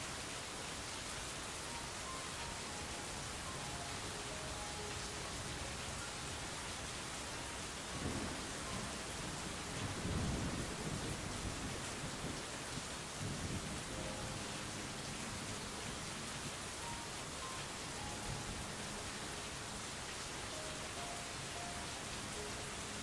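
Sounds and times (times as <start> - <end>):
rain hiss: 0.0 - 23.0.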